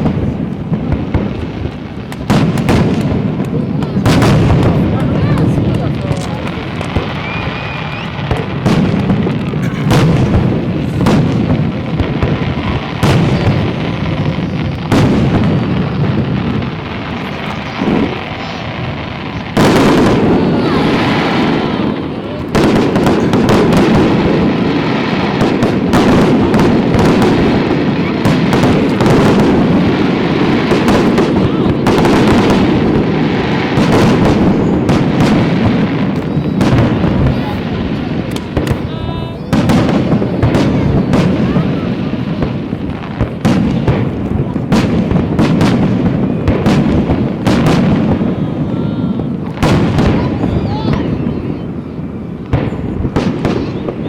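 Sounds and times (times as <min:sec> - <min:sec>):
fireworks booming: 0:00.0 - 0:54.0.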